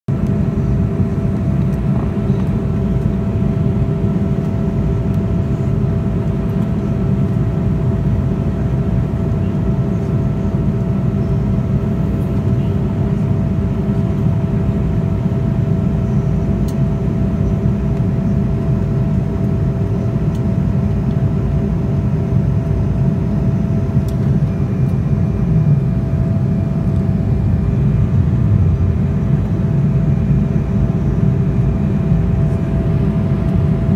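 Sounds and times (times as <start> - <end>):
jet engines rushing: 0.1 - 33.9
steady hums: 0.1 - 33.9.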